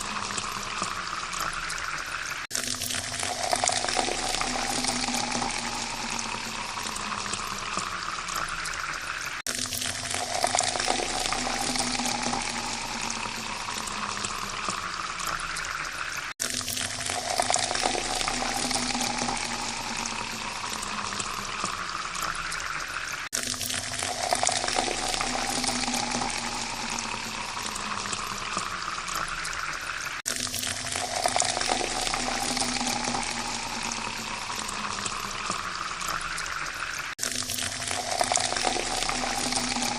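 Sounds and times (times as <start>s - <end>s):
water pouring into a glass: 0.0s - 39.9s.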